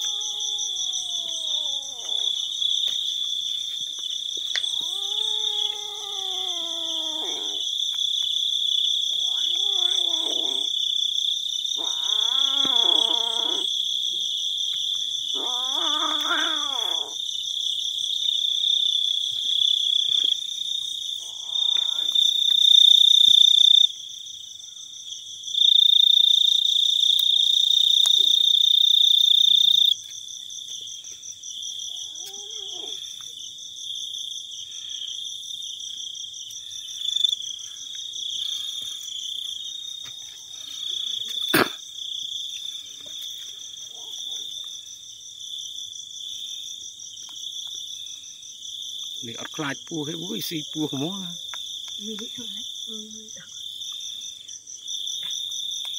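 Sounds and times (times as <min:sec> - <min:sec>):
crickets chirring: 0:00.0 - 0:55.9.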